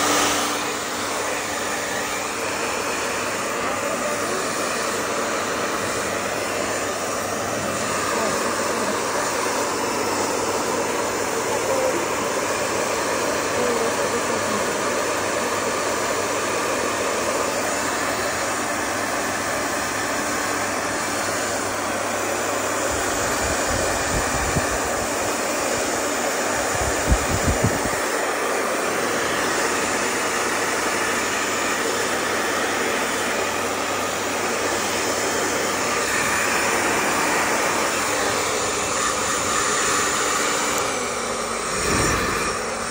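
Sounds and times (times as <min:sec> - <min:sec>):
hair dryer blowing: 0:00.0 - 0:42.9.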